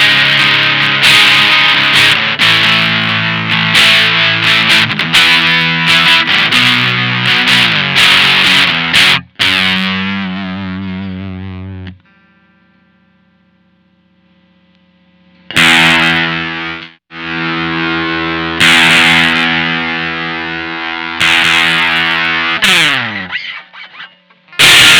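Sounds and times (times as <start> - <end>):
fuzzy electric guitar chords: 0.0 - 23.9, 24.5 - 24.9.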